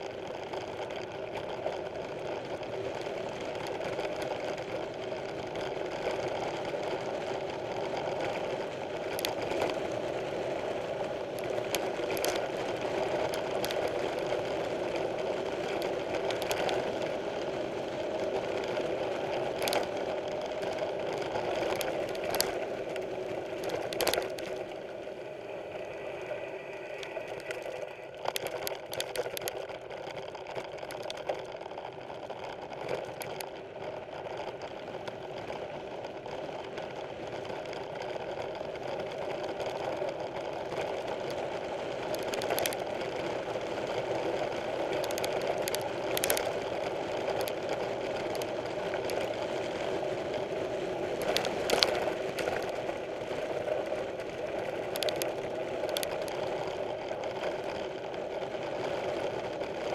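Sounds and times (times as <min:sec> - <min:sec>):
bike tyres on dirt trail: 0:00.0 - 0:59.9
bike frame rattling: 0:00.1 - 0:25.2, 0:26.8 - 0:59.9.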